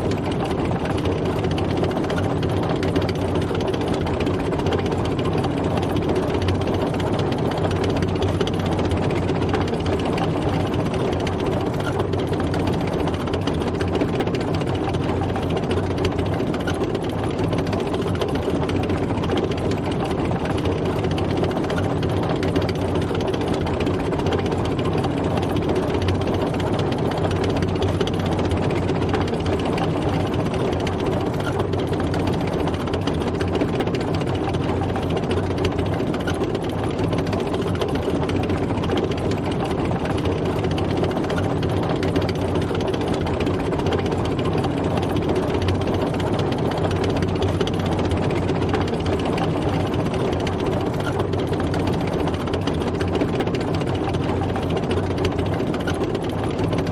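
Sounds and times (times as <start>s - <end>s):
tank engine rumbling: 0.0s - 56.9s.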